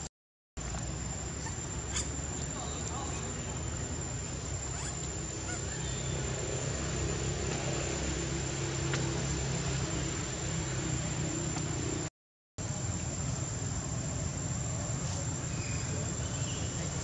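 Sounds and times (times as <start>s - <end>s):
hiss over low rumble: 0.6s - 17.0s.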